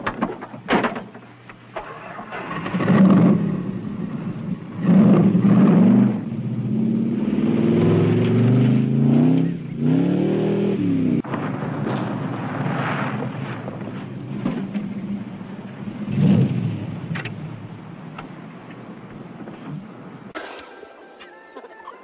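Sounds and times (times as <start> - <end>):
car engine revving: 1.8 - 20.3.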